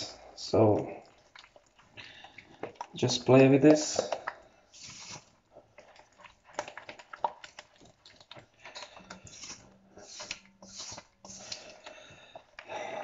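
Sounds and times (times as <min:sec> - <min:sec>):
utensil stirring in a bowl: 0:00.8 - 0:13.0.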